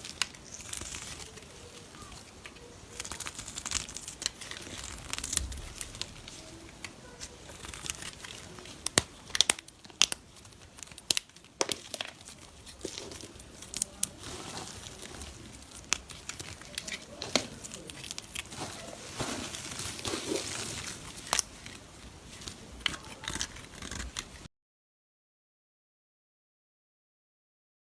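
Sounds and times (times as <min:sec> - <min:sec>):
soap crackling under a blade: 0:00.0 - 0:24.5.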